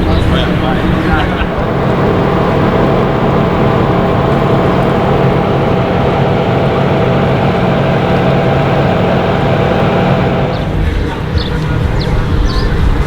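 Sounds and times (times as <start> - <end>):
car engine at constant revs: 0.0 - 13.0.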